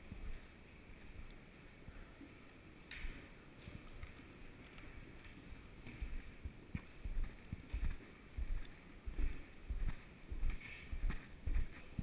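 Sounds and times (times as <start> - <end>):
footsteps down a staircase: 0.0 - 1.2, 2.9 - 12.0.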